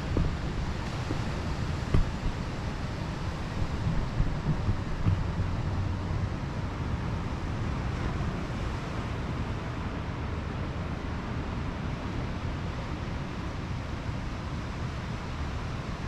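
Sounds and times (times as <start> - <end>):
ocean surf: 0.0 - 15.8
wind rumbling on microphone: 0.0 - 16.0.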